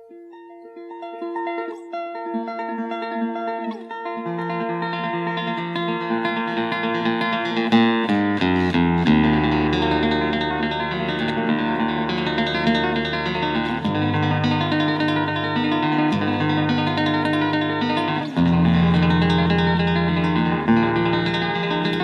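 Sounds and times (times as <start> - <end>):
plucked guitar: 0.0 - 22.0.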